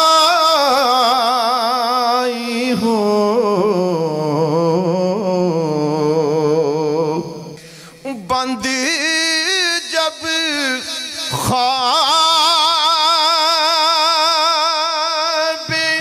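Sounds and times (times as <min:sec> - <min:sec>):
man reciting melismatic chant: 0:00.0 - 0:16.0.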